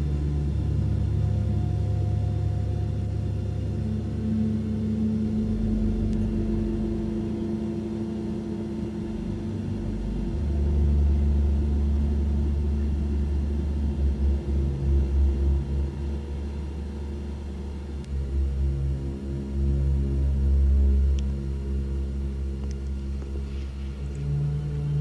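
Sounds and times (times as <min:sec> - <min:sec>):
low droning music: 0:00.0 - 0:25.0.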